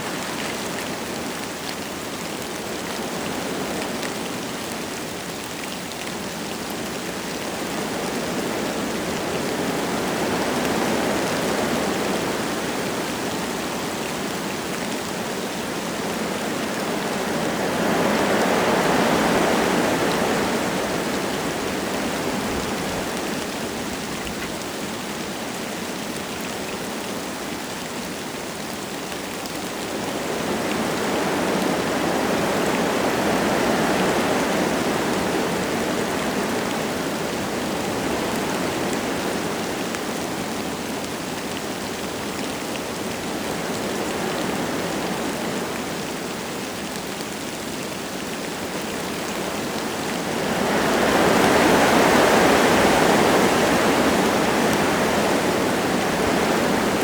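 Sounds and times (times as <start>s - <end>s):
light rain falling: 0.0s - 57.0s
wind gusting through trees: 0.0s - 57.0s.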